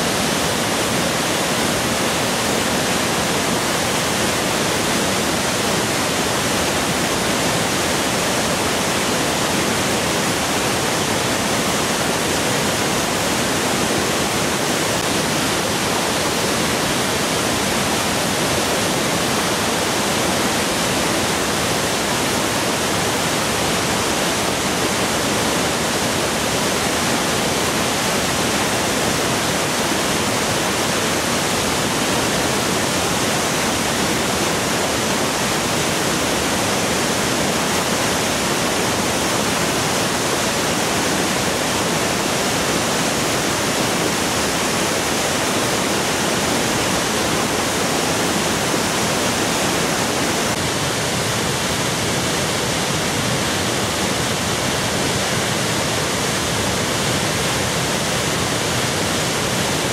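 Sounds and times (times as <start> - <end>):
waterfall rushing onto rock: 0.0 - 59.9.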